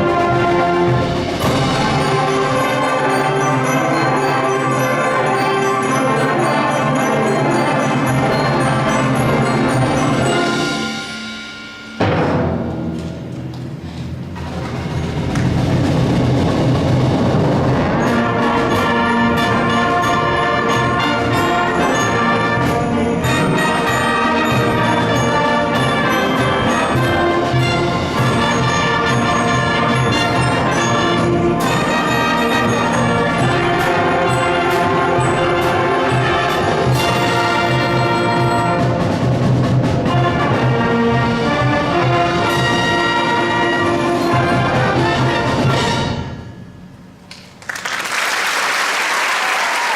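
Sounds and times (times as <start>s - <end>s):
brass section: 0.0s - 11.4s, 17.3s - 46.6s
concert band playing: 0.0s - 47.2s.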